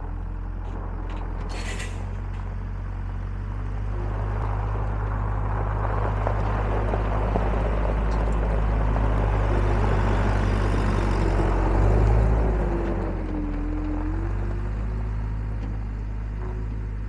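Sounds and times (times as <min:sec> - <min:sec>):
diesel engine running: 0:00.0 - 0:17.0
loader driving on gravel: 0:00.0 - 0:17.0.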